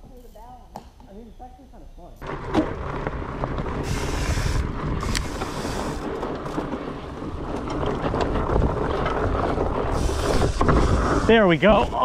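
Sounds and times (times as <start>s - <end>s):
mountain bike rattling on dirt trail: 2.2s - 12.0s
wind rumbling on microphone: 2.2s - 12.0s.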